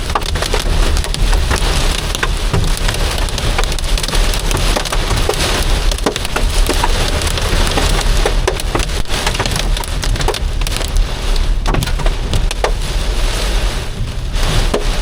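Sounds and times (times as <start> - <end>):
car driving rumble: 0.0 - 15.0
heavy rain drumming on car roof: 0.0 - 15.0.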